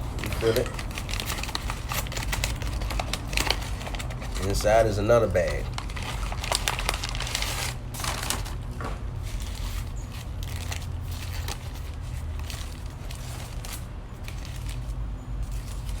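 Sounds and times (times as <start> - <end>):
paper bag crinkling: 0.0 - 16.0
steady low hum: 0.0 - 16.0.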